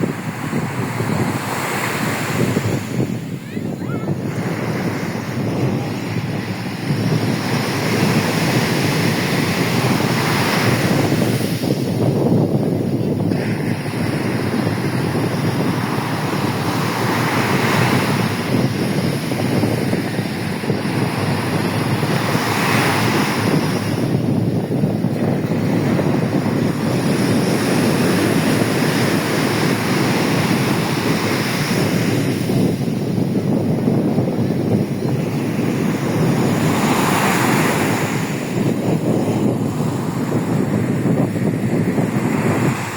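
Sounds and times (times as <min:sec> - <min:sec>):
sea surf breaking: 0:00.0 - 0:42.9
wind buffeting microphone: 0:00.0 - 0:42.9.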